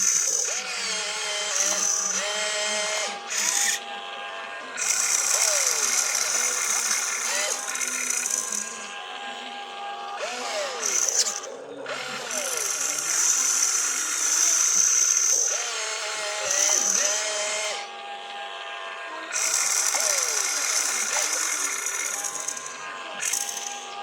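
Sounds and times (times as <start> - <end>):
toy electric motors whirring: 0.0 - 24.0.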